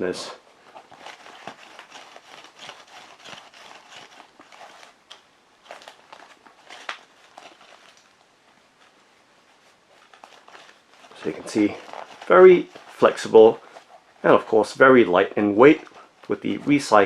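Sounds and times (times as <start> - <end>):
shoe rustling and creaking: 0.0 - 17.0.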